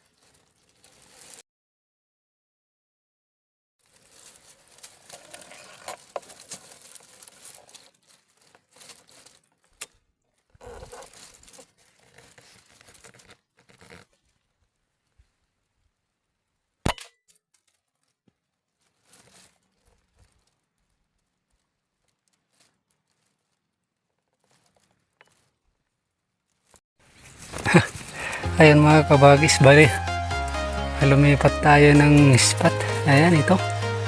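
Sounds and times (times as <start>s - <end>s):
rustling and crinkling handling noise: 0.0s - 1.4s, 3.8s - 16.2s, 17.3s - 34.0s.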